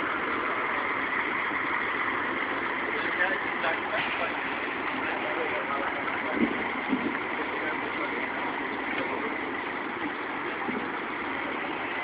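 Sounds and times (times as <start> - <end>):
vehicle noise: 0.0 - 12.0.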